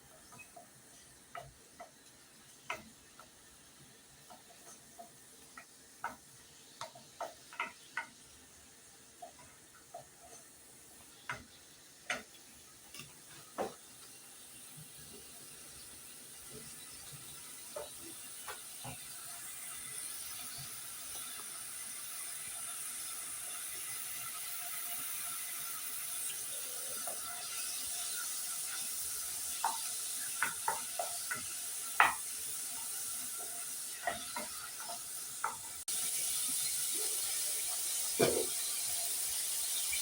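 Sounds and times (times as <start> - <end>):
cooking pot hissing and sizzling: 0.0 - 40.0.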